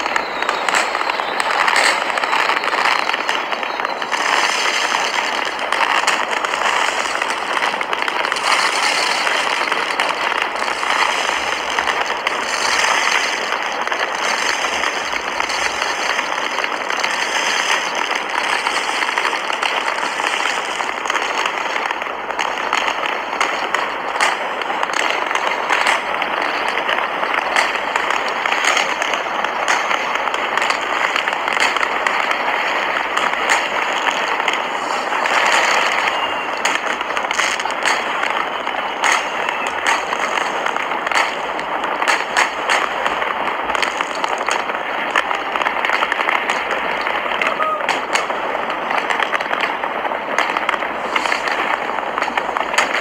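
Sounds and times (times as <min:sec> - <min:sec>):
fireworks crackling and banging: 0:00.0 - 0:53.0.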